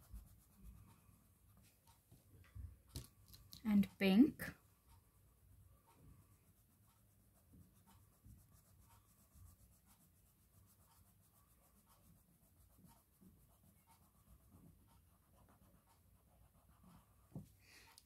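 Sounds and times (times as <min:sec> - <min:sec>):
crayon scratching on paper: 0:00.0 - 0:01.6, 0:03.3 - 0:17.3.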